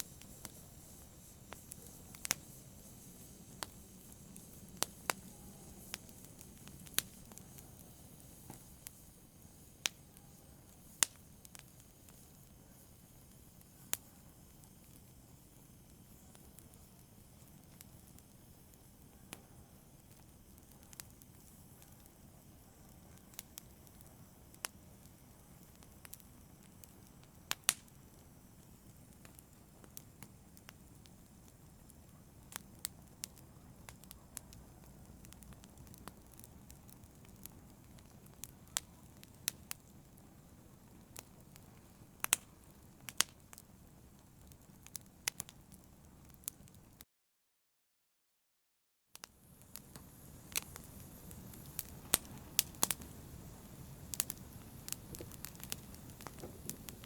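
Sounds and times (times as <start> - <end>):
soft hiss: 0.0 - 46.9, 49.2 - 57.0
fire crackling and popping: 0.0 - 47.0, 49.2 - 57.0.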